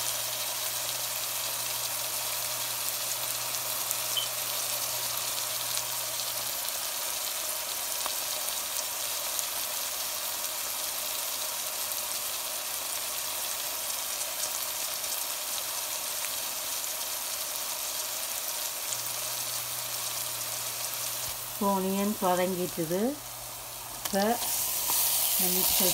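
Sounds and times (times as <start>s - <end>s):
crackles of frying oil: 0.0s - 25.9s
onions frying in oil: 0.0s - 25.9s.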